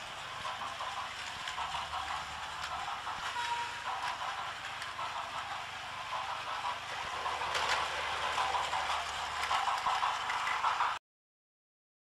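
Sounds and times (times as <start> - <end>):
toy train motors whirring: 0.0 - 11.0
wheels clicking over track joints: 0.0 - 11.0.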